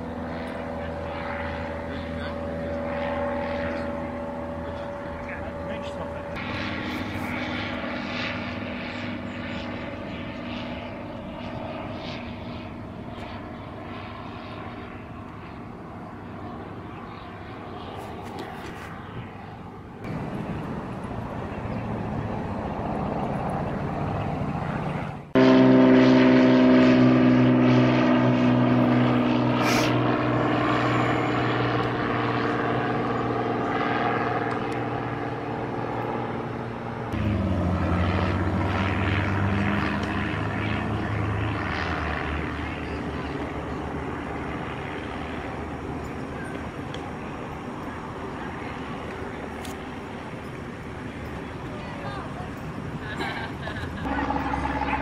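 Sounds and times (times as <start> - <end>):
propeller aircraft engine drone: 0.0 - 55.0.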